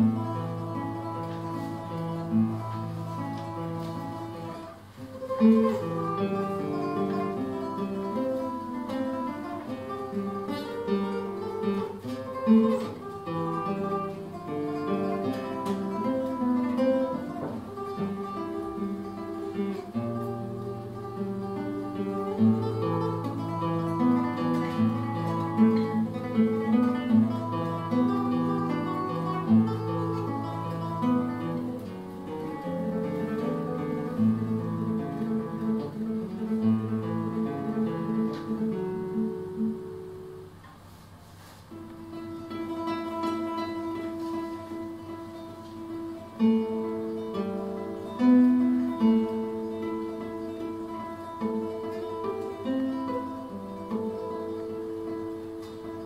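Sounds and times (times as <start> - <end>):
classical guitar fingerstyle: 0.0 - 56.0.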